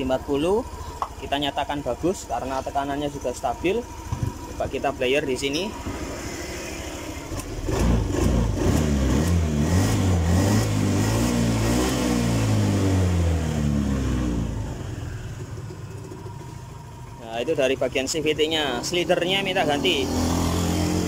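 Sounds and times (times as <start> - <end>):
scooter engine idling and revving: 0.0 - 21.0.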